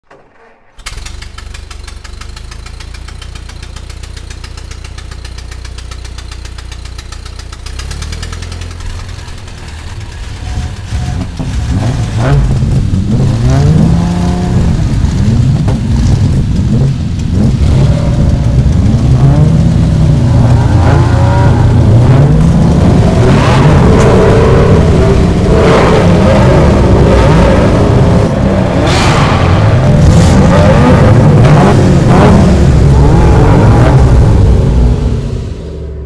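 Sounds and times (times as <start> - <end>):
car engine idling and revving: 0.8 - 36.0.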